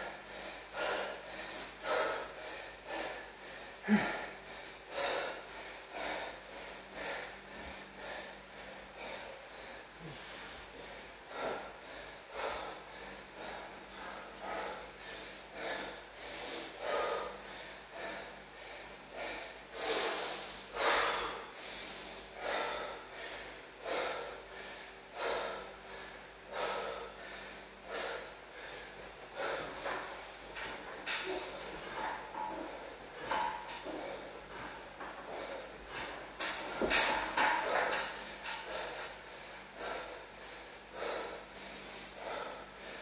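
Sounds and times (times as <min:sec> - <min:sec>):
man breathing heavily: 0:00.0 - 0:43.0.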